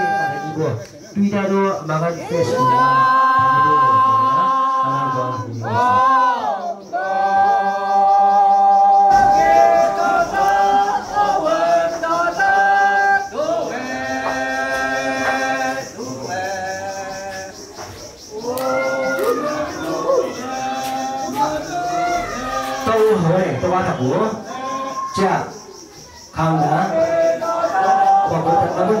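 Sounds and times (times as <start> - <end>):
men chanting together: 0.0 - 1.2, 2.1 - 29.0.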